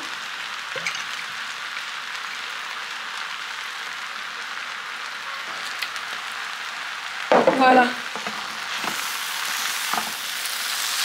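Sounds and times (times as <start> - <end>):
noodles sizzling in a frying pan: 0.0 - 11.0.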